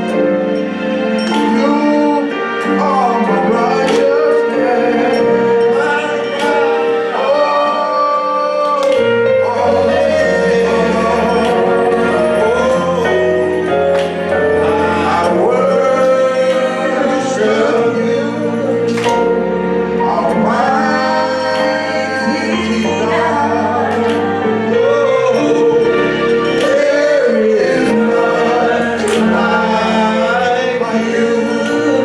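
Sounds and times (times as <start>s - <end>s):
gospel singing voices: 0.0s - 32.0s.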